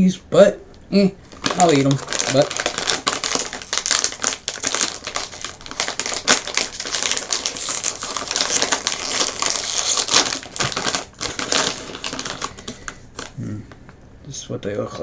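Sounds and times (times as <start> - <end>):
snack bag crinkling: 1.2 - 14.0.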